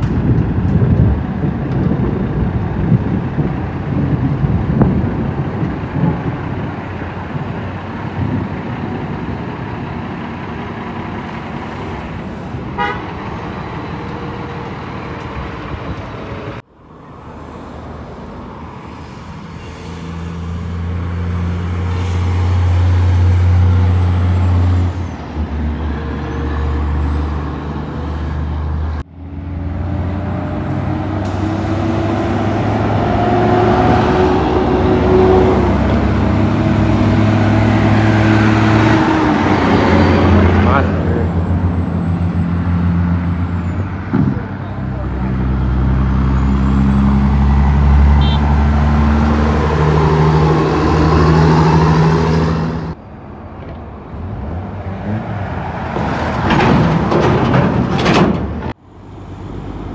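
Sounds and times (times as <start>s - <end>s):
diesel truck engine accelerating: 0.0s - 59.9s.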